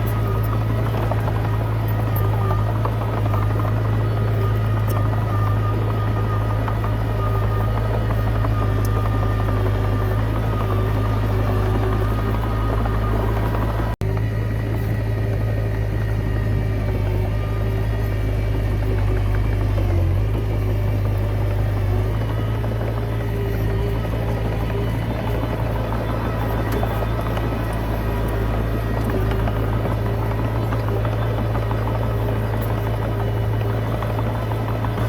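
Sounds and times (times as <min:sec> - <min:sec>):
bulldozer diesel engine droning: 0:00.0 - 0:35.0.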